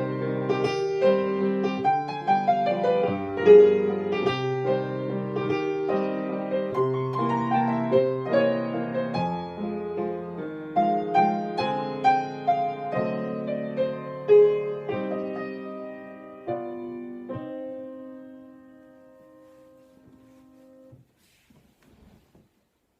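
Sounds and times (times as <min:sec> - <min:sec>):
piano playing a waltz: 0:00.0 - 0:21.0.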